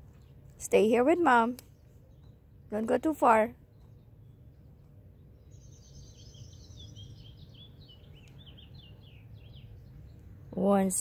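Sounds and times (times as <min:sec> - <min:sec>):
low outdoor rumble: 0:00.0 - 0:11.0
songbird chirping: 0:00.0 - 0:11.0.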